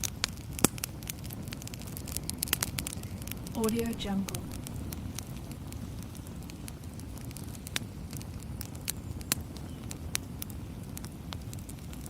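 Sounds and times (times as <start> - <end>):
campfire crackling and popping: 0.0 - 12.0
low fire rumble: 0.0 - 12.0.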